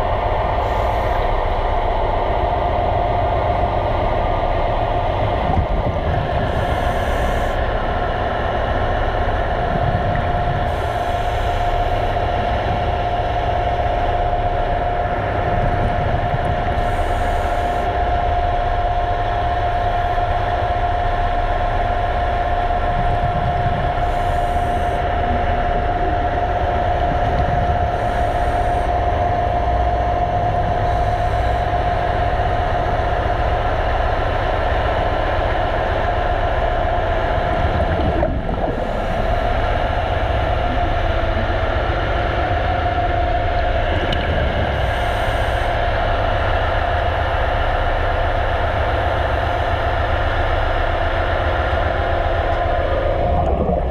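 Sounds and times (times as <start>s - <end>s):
underwater mechanical hum: 0.0s - 53.9s.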